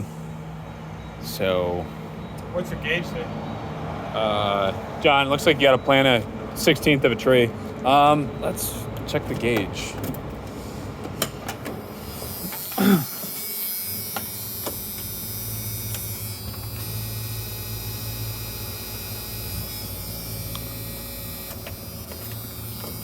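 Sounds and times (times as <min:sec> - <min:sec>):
fuel pump humming: 0:04.4 - 0:23.0.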